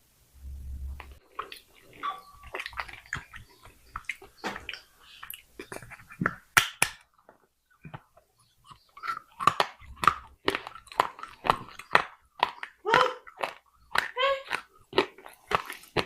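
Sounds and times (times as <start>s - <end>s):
clay pot crunching when chewed: 1.0s - 7.0s, 7.7s - 16.0s.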